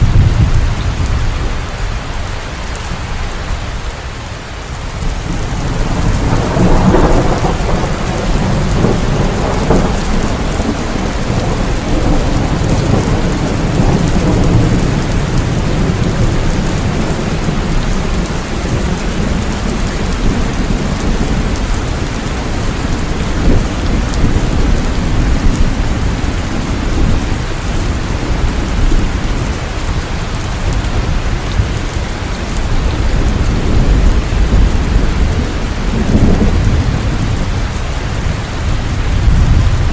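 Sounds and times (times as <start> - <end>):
deep thunder rumble: 0.0 - 3.2, 5.0 - 39.9
steady rain pouring: 0.0 - 39.9.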